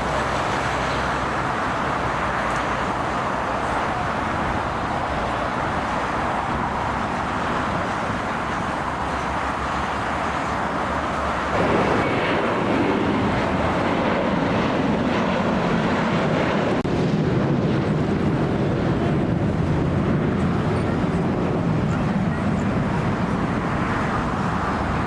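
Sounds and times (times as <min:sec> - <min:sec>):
jet airliner passing: 0:00.0 - 0:25.0.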